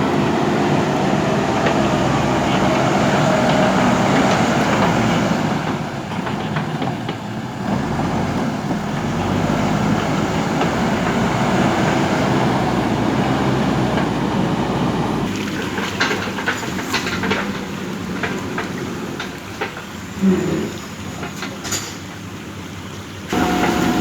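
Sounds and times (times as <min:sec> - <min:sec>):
diesel engine running: 0:00.0 - 0:19.7, 0:23.3 - 0:24.0.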